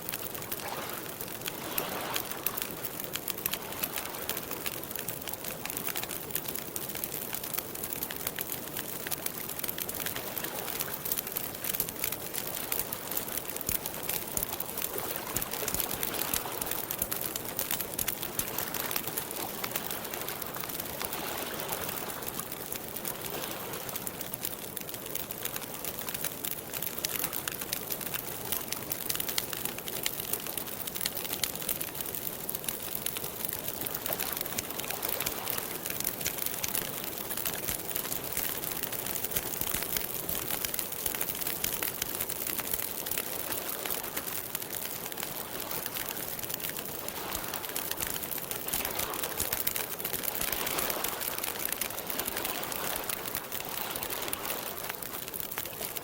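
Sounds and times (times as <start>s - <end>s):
campfire crackling: 0.0s - 56.0s
fire popping and snapping: 0.0s - 56.0s
soft fire hiss: 0.0s - 56.0s.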